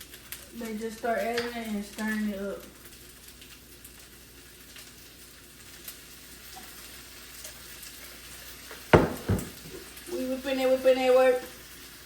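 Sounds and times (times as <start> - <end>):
rice sizzling in a pan: 0.0 - 12.0.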